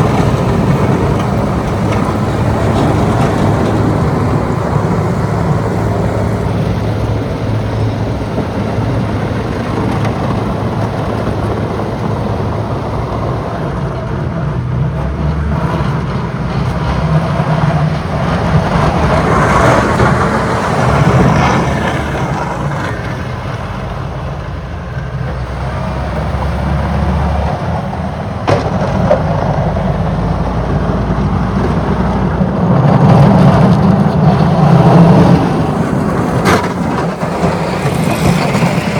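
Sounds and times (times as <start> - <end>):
diesel engines of graders working: 0.0 - 38.9.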